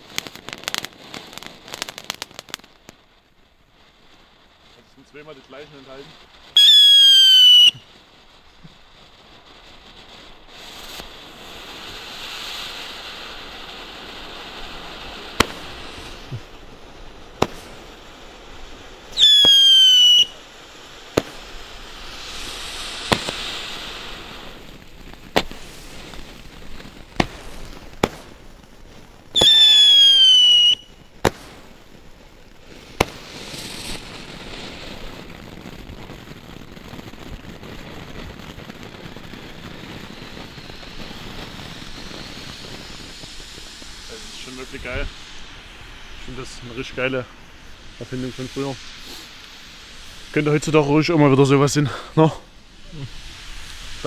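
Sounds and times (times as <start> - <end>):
firework bangs: 0.0 - 54.0
firework fountains hissing: 0.0 - 54.0
firework whistles: 0.0 - 54.0.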